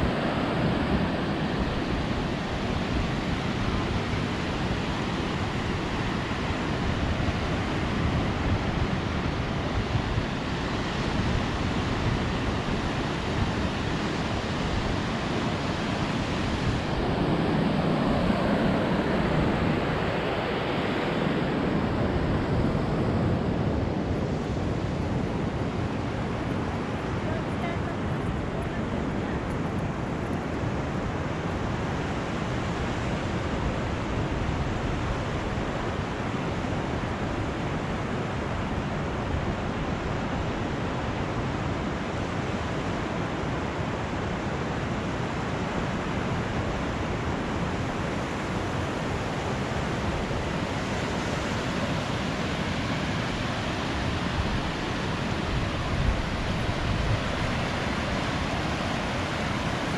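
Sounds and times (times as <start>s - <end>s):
ocean surf washing onto beach: 0.0s - 59.9s
wind buffeting microphone: 0.0s - 59.9s.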